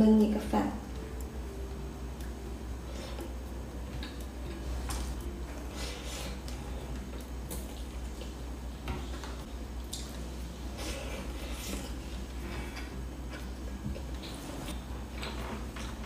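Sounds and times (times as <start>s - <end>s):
steady low hum: 0.0s - 16.0s
wet chewing and mouth noises: 2.2s - 16.0s.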